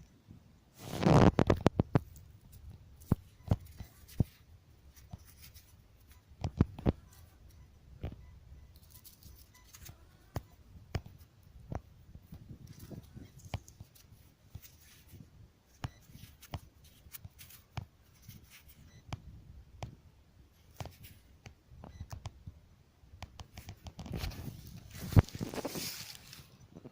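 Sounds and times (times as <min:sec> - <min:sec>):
rustling: 0:00.7 - 0:19.0, 0:23.4 - 0:26.9.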